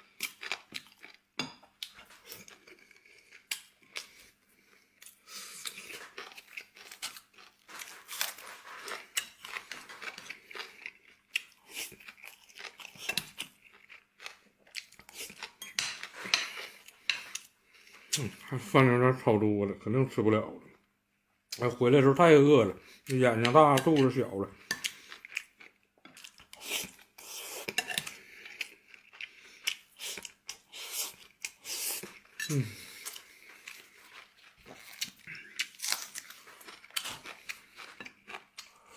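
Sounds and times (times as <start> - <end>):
person chewing food: 0.0 - 18.5, 22.9 - 38.9.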